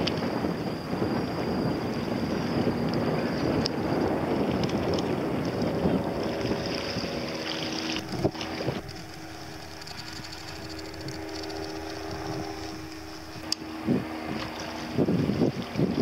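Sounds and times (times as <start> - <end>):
helicopter droning hum: 0.0 - 16.0
wind buffeting microphone: 0.0 - 16.0.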